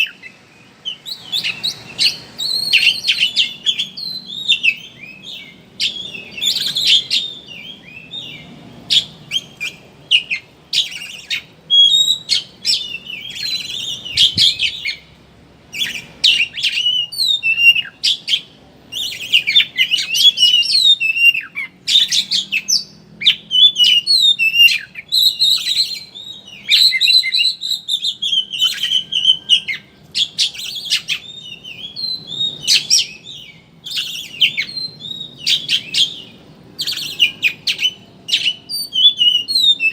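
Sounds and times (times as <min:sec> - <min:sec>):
magpie-robin singing: 0:00.0 - 0:15.1, 0:15.7 - 0:39.9.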